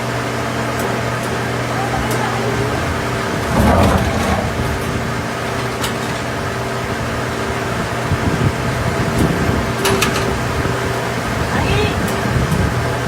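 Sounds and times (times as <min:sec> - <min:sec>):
factory machinery humming: 0:00.0 - 0:13.0.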